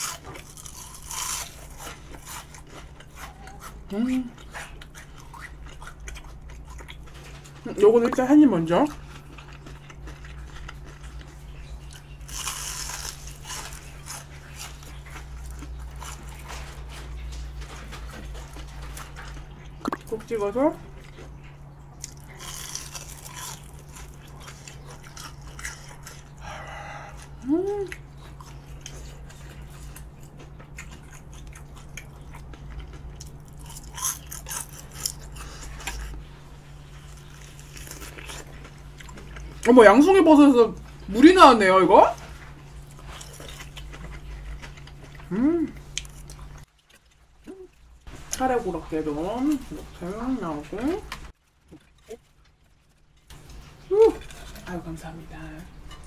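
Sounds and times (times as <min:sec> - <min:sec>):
crunching fried shrimp: 0:00.0 - 0:50.0, 0:50.8 - 0:56.0.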